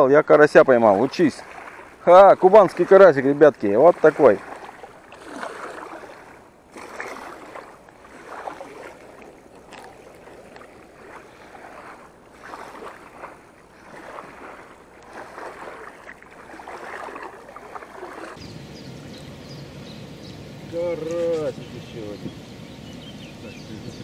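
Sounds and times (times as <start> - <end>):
small waves lapping at shore: 0.0 - 24.0.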